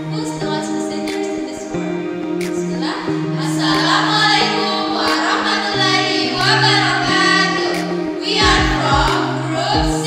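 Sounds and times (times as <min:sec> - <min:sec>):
sustained instrumental chords: 0:00.0 - 0:10.0
women singing together: 0:00.0 - 0:10.0.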